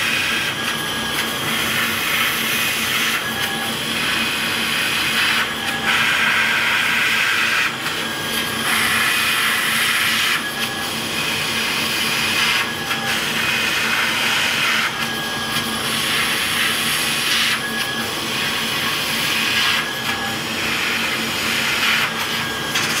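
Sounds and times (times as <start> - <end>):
laser cutter hissing: 0.0 - 22.9.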